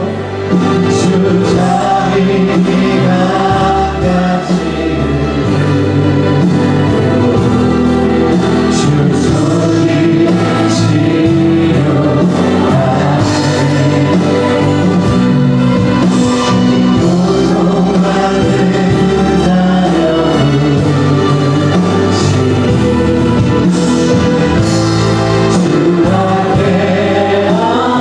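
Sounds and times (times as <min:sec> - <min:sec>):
choir singing: 0:00.0 - 0:28.0
instrumental accompaniment: 0:00.0 - 0:28.0.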